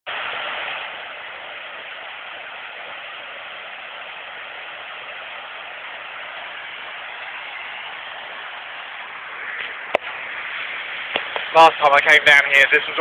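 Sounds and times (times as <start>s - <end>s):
waterfall pouring over rocks: 0.1s - 13.0s.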